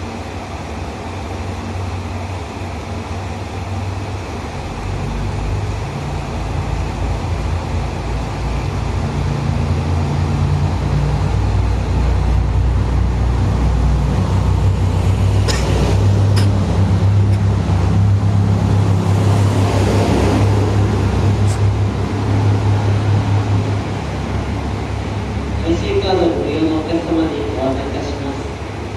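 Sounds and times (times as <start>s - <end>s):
diesel engine humming: 0.0s - 28.9s.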